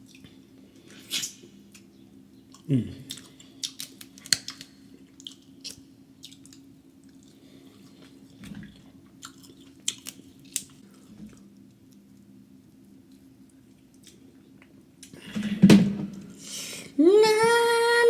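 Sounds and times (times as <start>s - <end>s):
person chewing with wet smacks: 0.0s - 15.2s.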